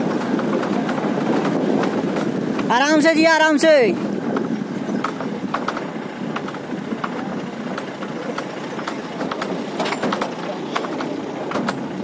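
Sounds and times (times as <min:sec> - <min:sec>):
truck knocks and rattles: 0:00.0 - 0:03.0, 0:04.1 - 0:12.0
truck engine and road noise: 0:00.0 - 0:12.0.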